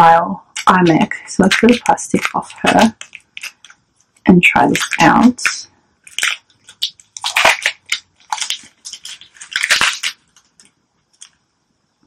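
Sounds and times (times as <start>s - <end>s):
plastic wrapping crinkling: 0.6s - 11.4s.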